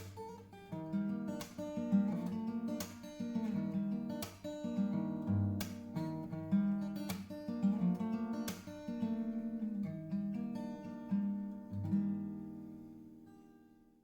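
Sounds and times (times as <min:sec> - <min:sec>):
acoustic guitar picking and strumming: 0:00.0 - 0:13.6.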